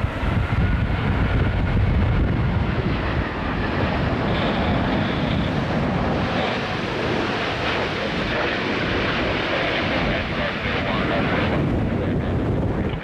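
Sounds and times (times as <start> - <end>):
jet engines of passing airliner: 0.0 - 13.0
wind buffeting microphone: 0.0 - 13.0.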